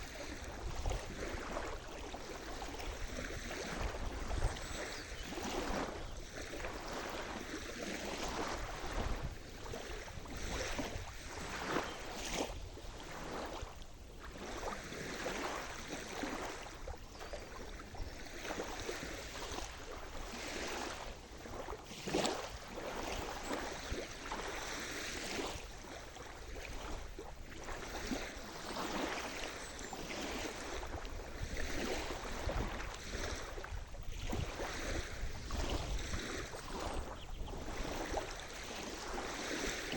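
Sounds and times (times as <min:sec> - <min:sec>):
sea waves washing and splashing: 0:00.0 - 0:39.9.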